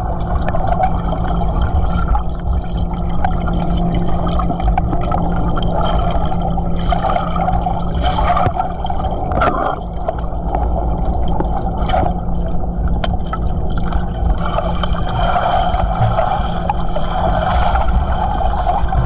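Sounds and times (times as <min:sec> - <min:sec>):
underwater low hum and water noise: 0:00.0 - 0:19.0.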